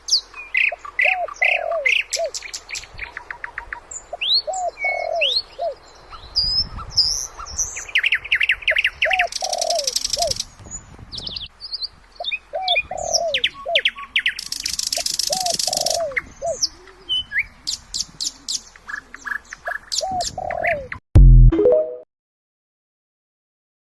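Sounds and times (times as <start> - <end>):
birds chirping and whistling: 0.1 - 21.0.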